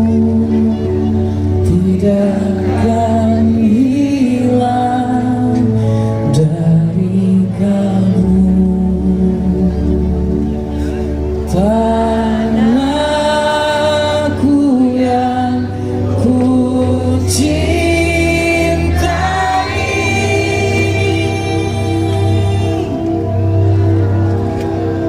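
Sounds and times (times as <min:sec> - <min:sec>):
person singing slow melody: 0:00.0 - 0:25.0
sustained low bass: 0:00.0 - 0:25.0.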